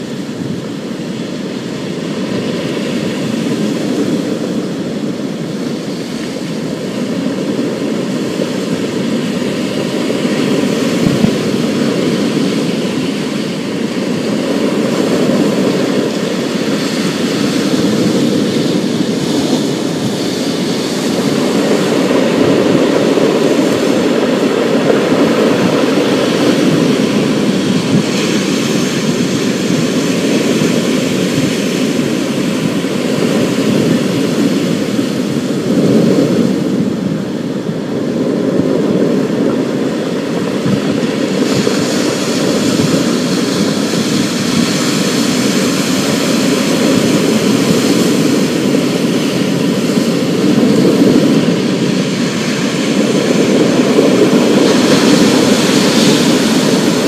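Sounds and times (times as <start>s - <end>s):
heavy waves: 0.0s - 57.0s
wind roaring: 0.0s - 57.0s.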